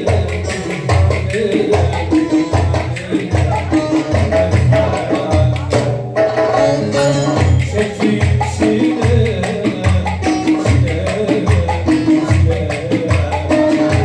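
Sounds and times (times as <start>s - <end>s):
deep drum beat: 0.0s - 14.0s
folk dance music by band: 0.0s - 14.0s.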